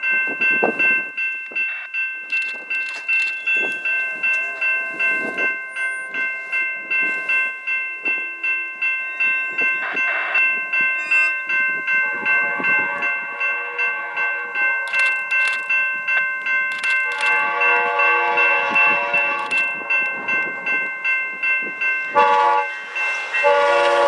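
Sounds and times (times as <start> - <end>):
level crossing bell ringing: 0.0 - 24.0.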